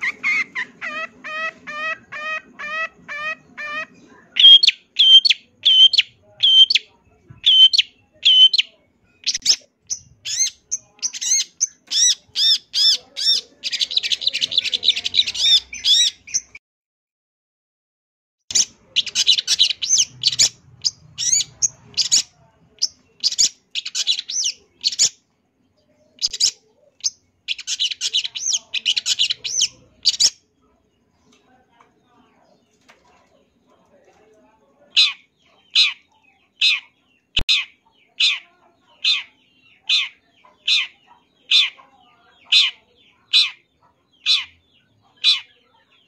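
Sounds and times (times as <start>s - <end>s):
shrike singing varied song: 0.0s - 16.6s, 18.5s - 30.5s, 34.9s - 46.0s.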